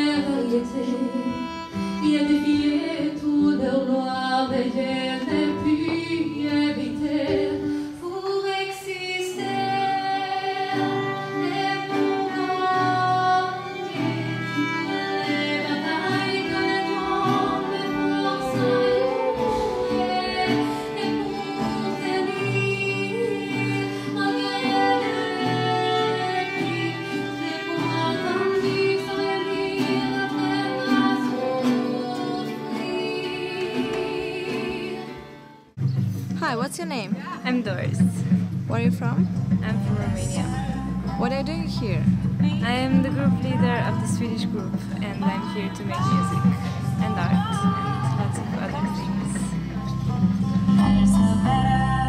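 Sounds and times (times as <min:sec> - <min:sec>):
violin playing a melody: 0:00.0 - 0:35.8, 0:36.7 - 0:51.6
guitar accompaniment: 0:00.0 - 0:52.0.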